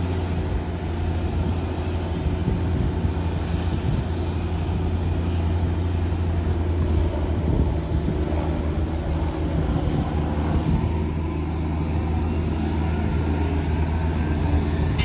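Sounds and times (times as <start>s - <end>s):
jet engines humming and hissing: 0.0s - 15.0s.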